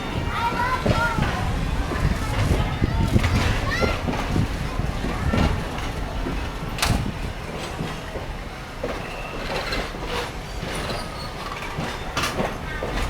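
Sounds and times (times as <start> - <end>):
train rumbling along track: 0.0 - 13.0
wheels clacking on rails: 0.0 - 13.0.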